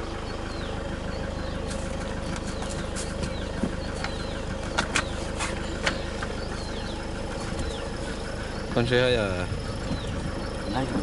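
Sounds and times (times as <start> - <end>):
birds chirping: 0.0 - 11.0
vehicle engine idling: 0.0 - 11.0.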